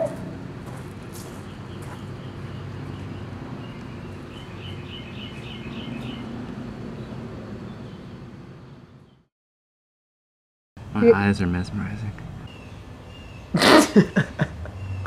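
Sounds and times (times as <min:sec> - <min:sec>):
outdoor background noise: 0:00.0 - 0:09.3, 0:10.8 - 0:15.0.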